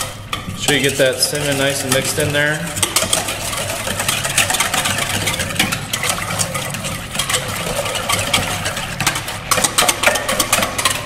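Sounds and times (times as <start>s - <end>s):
low machine hum: 0.0s - 11.0s
whisk beating in metal bowl: 0.0s - 11.0s.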